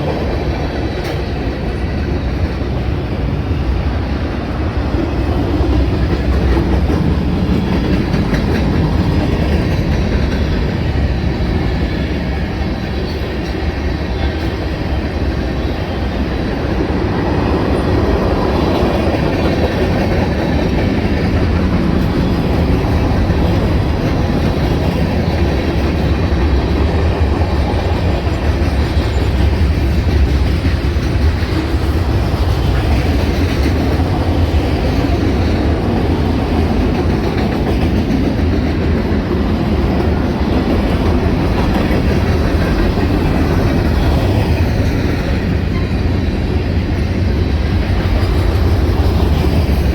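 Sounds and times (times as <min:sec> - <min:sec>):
clickety-clack of rail joints: 0:00.0 - 0:49.9
train wheels rumbling on rail: 0:00.0 - 0:49.9.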